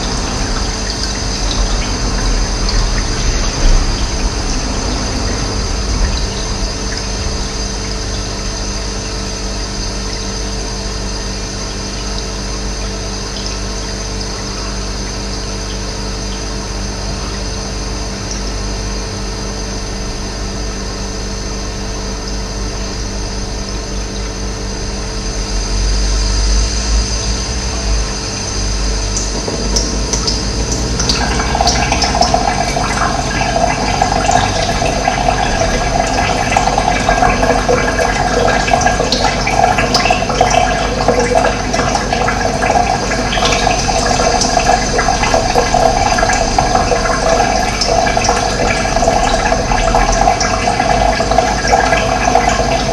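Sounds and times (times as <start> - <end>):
running water flowing: 0.0 - 19.8, 23.3 - 52.9.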